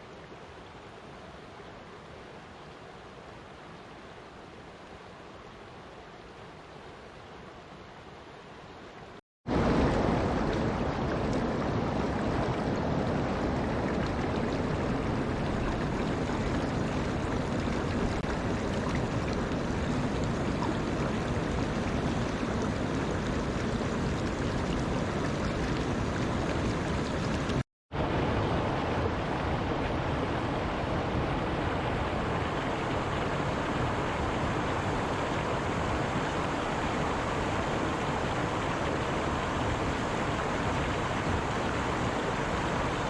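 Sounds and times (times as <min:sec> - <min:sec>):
flowing water rushing: 0:00.0 - 0:43.0.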